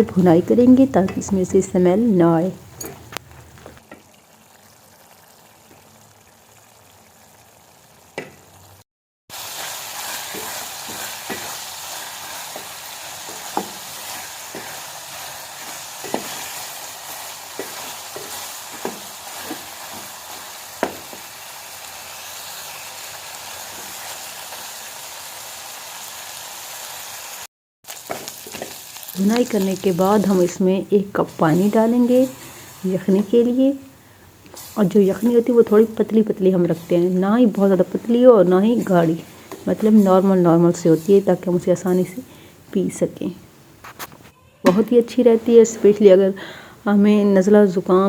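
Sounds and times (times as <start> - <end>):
chicken sizzling in oil: 2.4 - 42.5.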